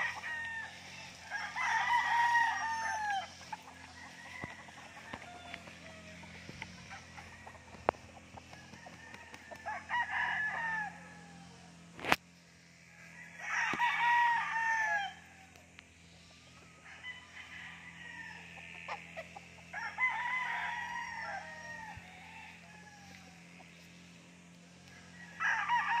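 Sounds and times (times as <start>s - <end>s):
roosters crowing: 0.0s - 26.0s.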